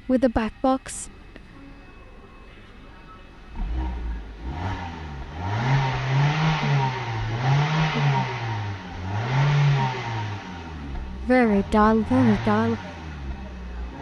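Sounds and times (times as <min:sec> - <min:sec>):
car engine revving: 0:01.1 - 0:14.0.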